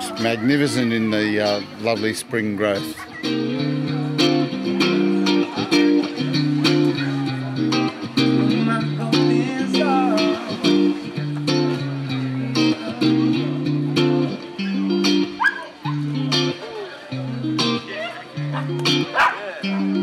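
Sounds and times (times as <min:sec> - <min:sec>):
guitar-led music with beat: 0:00.0 - 0:20.0.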